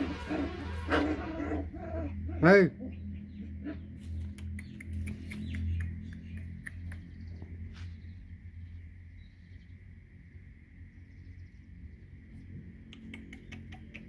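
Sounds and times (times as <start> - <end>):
low rumble: 0.0 - 12.9.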